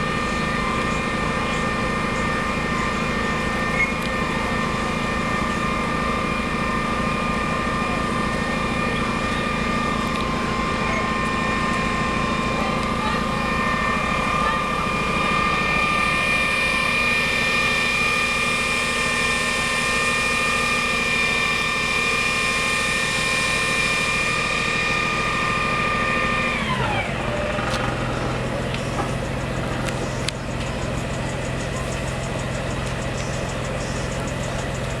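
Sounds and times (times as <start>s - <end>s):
engine revving and idling: 0.0s - 35.0s.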